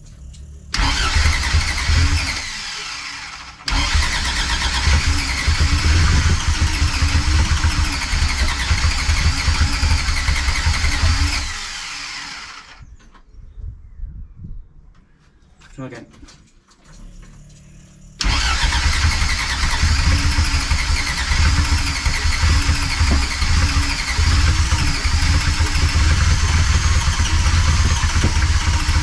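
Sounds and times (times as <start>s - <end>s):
engine cranking on starter: 0.0s - 12.8s, 16.8s - 29.0s.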